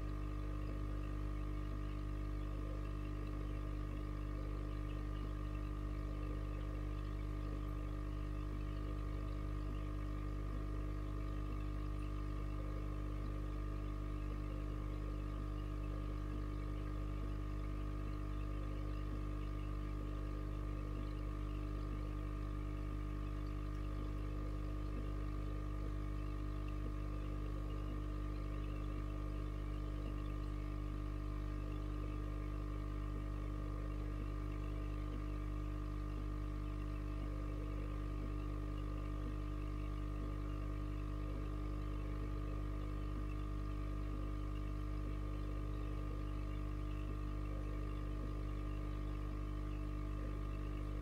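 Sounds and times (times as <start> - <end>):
aquarium pump motor humming: 0.0 - 51.0.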